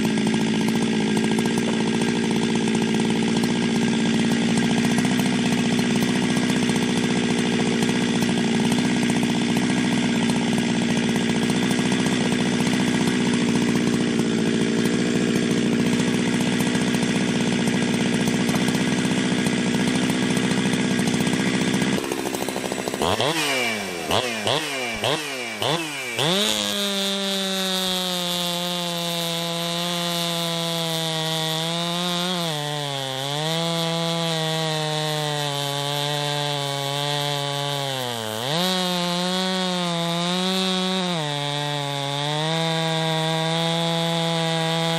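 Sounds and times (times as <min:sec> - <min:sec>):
chainsaw running and revving: 0:00.0 - 0:44.9.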